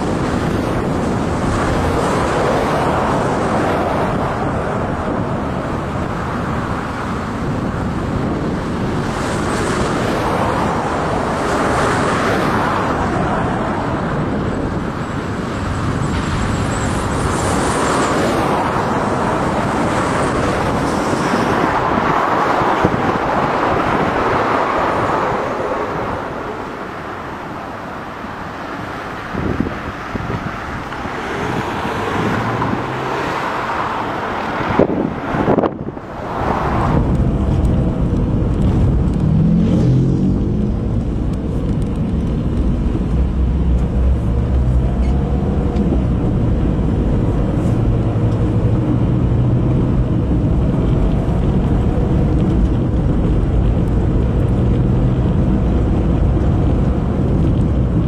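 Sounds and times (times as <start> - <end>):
cars passing on highway: 0.0 - 58.0.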